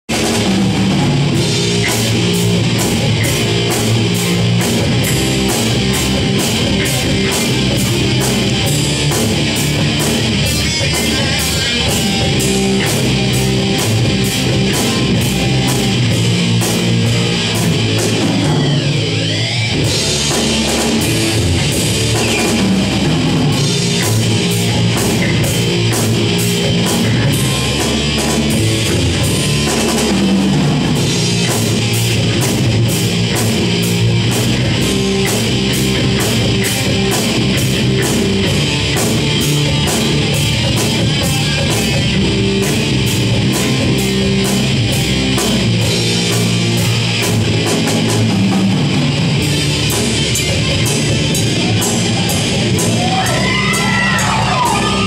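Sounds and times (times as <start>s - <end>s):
drum kit with cymbals: 0.0s - 55.0s
electric guitars: 0.0s - 55.0s.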